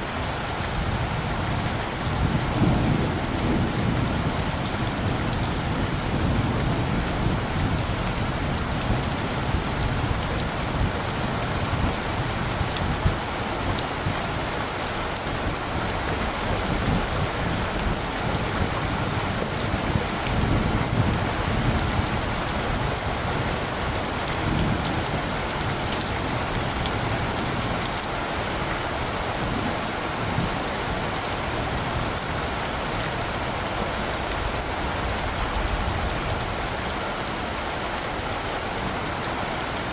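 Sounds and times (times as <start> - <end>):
rain drops ticking: 0.0 - 39.9.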